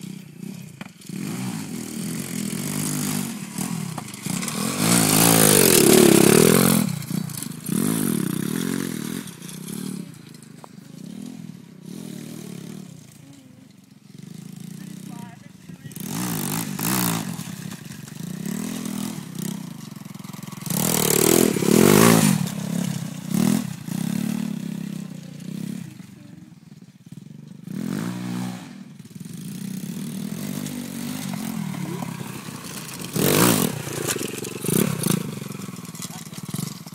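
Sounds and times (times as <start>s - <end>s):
motorbike engine revving: 0.0s - 36.9s
clatter and scraping: 2.6s - 27.6s, 29.1s - 36.9s.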